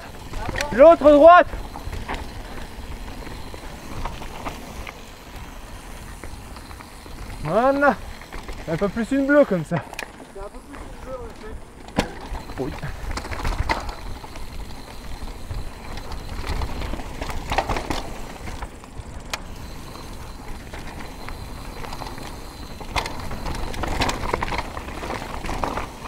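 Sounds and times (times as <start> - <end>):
bike rattling over bumps: 0.0 - 26.0
bike tyres rumbling over gravel: 0.0 - 26.0.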